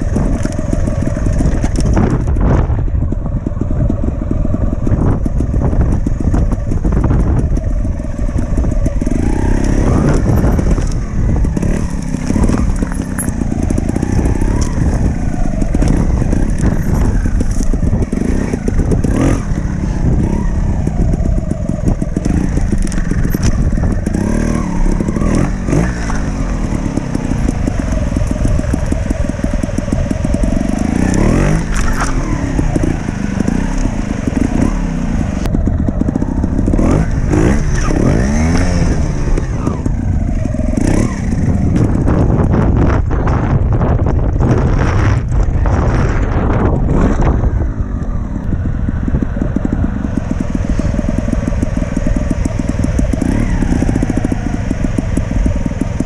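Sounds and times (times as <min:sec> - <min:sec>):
knocks and clatter over rough ground: 0:00.0 - 0:56.0
motorcycle engine revving: 0:00.0 - 0:56.0.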